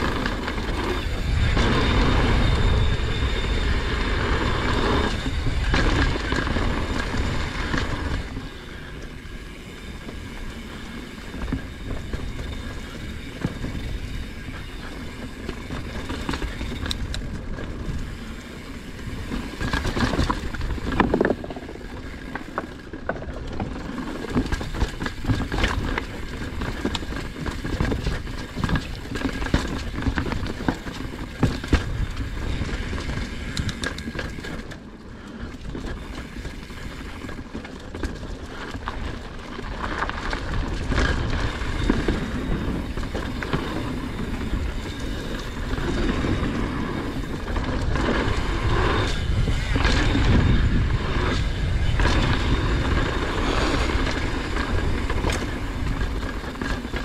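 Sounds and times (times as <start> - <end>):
wind rumble: 0.0 - 57.0
bike clattering and knocking: 10.1 - 57.0.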